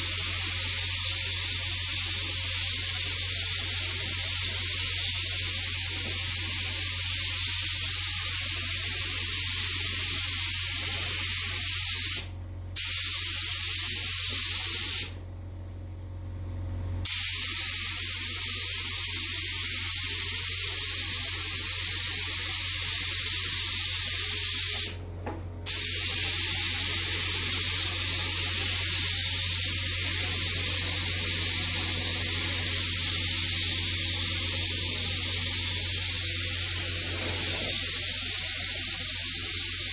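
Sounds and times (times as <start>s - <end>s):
paint spraying hiss: 0.0s - 15.2s, 17.0s - 25.0s, 25.6s - 39.9s.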